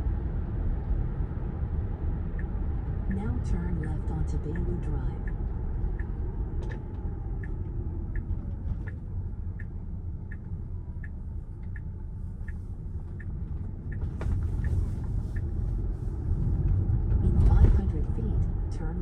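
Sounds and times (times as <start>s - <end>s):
road and tyre rumble: 0.0s - 19.0s
turn signal ticking: 0.3s - 19.0s.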